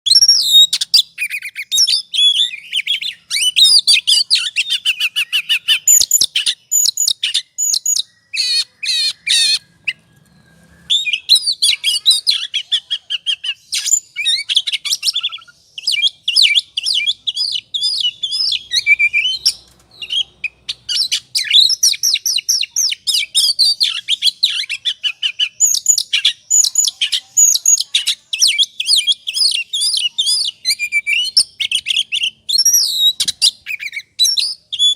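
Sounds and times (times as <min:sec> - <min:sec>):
songbird singing chirps and trills: 0:00.0 - 0:34.9.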